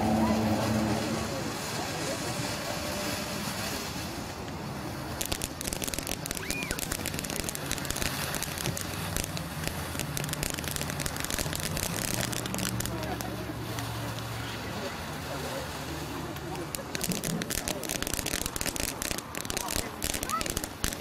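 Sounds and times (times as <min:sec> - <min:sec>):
firework fountain hissing and crackling: 0:00.0 - 0:21.0.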